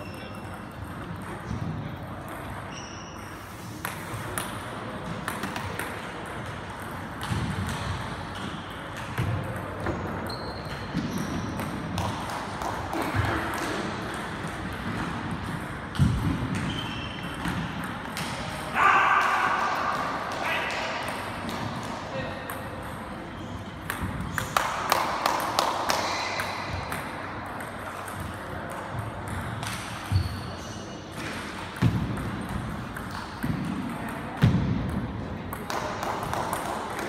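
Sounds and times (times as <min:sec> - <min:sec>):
table tennis ball bouncing: 0:00.0 - 0:30.5, 0:31.1 - 0:37.0.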